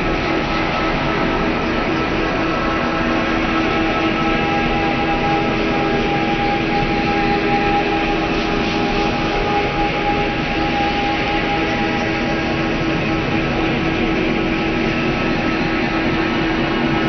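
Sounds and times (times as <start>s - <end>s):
rushing noise drone: 0.0s - 17.0s.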